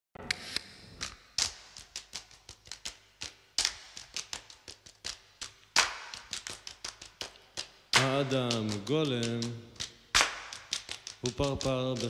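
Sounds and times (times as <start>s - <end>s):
percussive clicks and taps: 1.0s - 12.0s.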